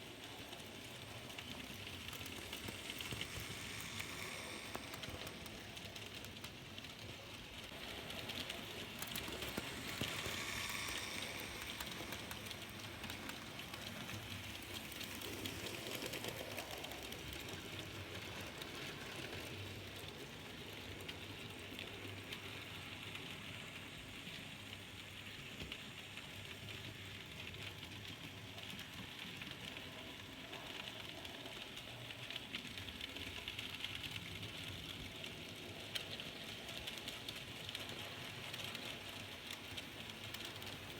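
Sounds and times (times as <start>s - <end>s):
model train clicking on track: 0.0s - 40.9s.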